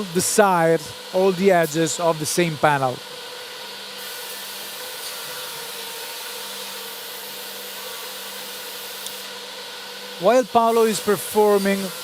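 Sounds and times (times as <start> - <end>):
edge banding machine running: 0.0 - 12.0.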